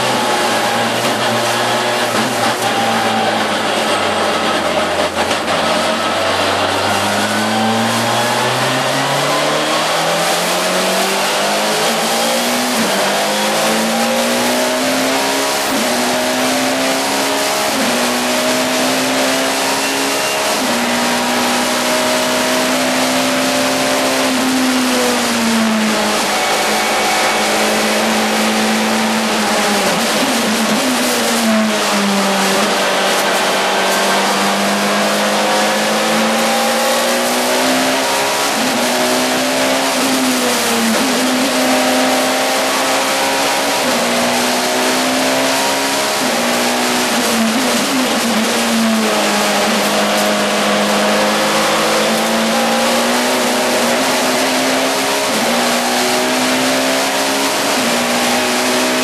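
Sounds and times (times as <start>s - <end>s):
car engine running hard: 0.0s - 59.0s.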